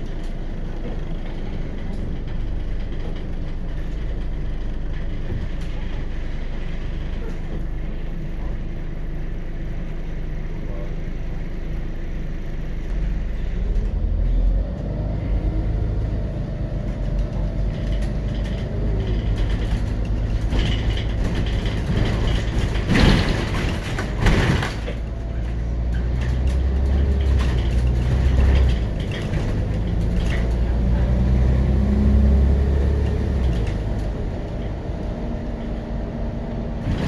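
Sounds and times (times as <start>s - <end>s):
bus diesel engine rumble: 0.0s - 37.0s.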